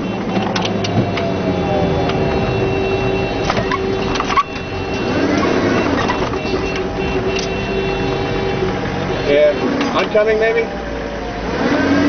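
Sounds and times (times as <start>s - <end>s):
vehicle engine running while driving: 0.0s - 12.0s.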